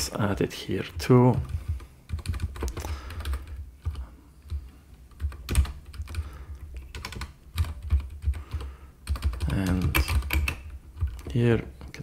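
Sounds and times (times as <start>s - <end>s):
typing on computer keyboard: 1.4s - 12.0s.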